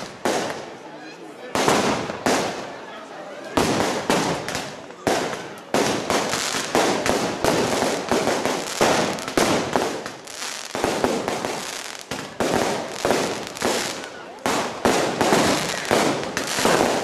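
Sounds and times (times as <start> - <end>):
firework bangs: 0.0 - 0.8, 1.5 - 2.8, 3.5 - 17.0
firework crackle: 0.0 - 0.8, 1.6 - 2.7, 3.6 - 17.0.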